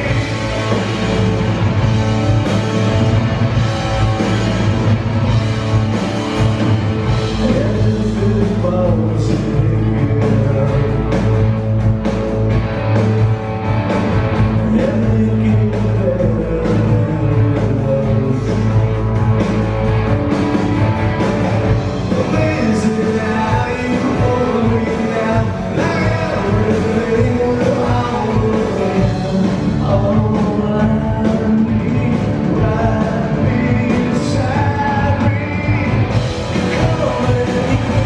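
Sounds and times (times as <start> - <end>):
drums: 0.0 - 38.0
electric bass guitar: 0.0 - 38.0
rock band playing live: 0.0 - 38.0.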